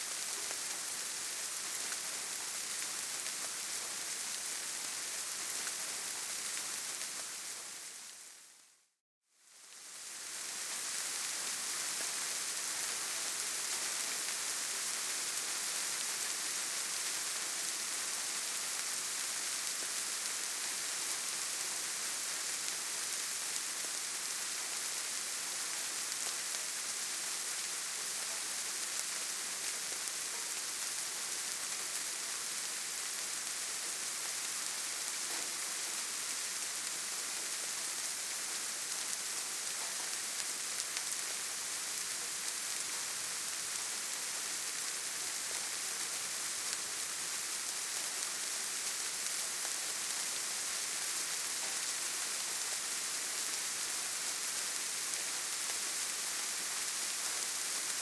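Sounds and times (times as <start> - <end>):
steady rain in a forest: 0.0 - 58.0.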